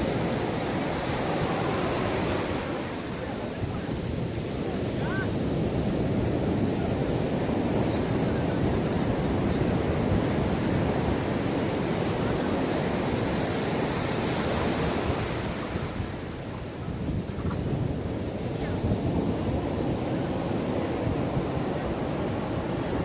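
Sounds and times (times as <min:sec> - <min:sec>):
surf washing on a beach: 0:00.0 - 0:23.0
wind buffeting microphone: 0:00.0 - 0:23.0.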